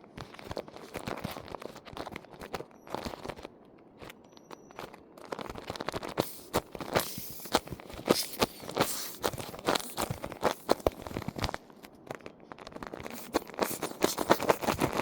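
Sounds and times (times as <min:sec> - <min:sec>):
squishy toys crinkling: 0:00.1 - 0:15.0.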